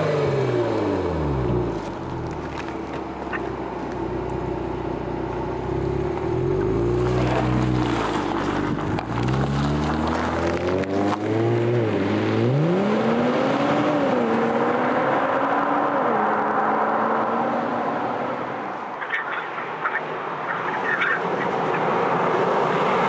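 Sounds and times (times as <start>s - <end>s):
car engine accelerating: 0.0s - 18.5s.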